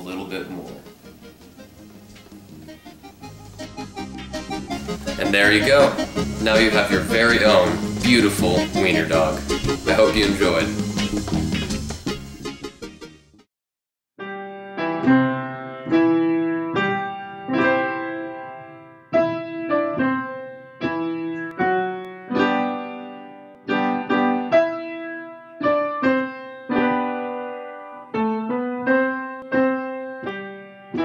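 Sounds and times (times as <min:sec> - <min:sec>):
slow piano piece: 0:00.0 - 0:10.0, 0:14.2 - 0:31.0.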